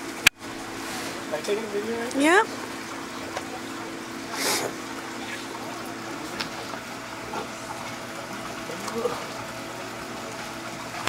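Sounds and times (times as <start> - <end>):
aquarium filter hum: 0.0 - 11.0
running water: 0.0 - 11.0.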